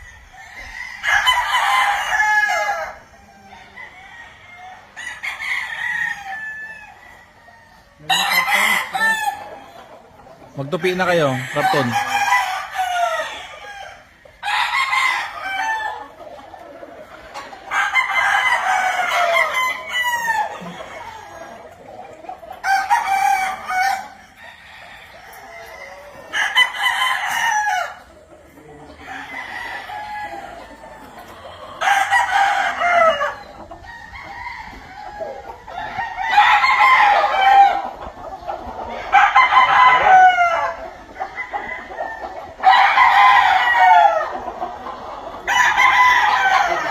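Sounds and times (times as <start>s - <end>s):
roosters crowing: 0.0s - 46.9s.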